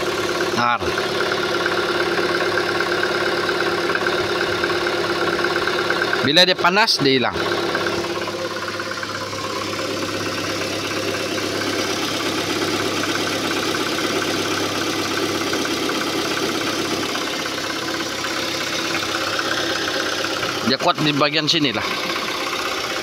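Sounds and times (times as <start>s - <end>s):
car engine idling with ticking clatter: 0.0s - 23.0s.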